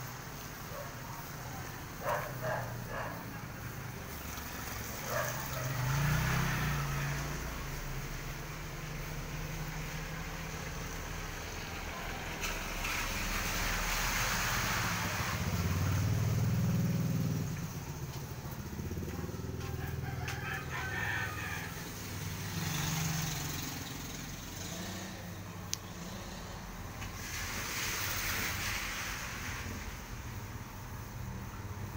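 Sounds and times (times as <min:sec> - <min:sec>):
vehicle engine passing: 0:00.3 - 0:31.9.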